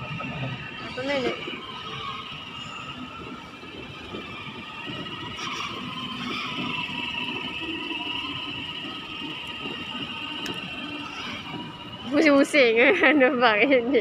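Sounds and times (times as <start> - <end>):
toy car electric motor whine: 0.0 - 12.8.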